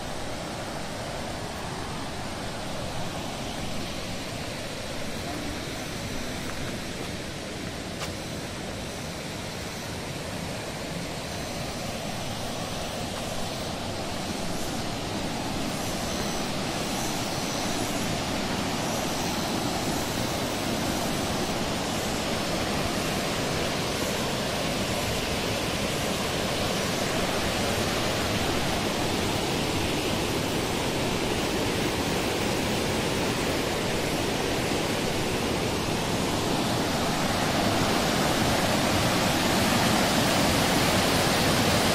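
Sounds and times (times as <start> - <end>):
waterfall and river rushing: 0.0 - 41.9.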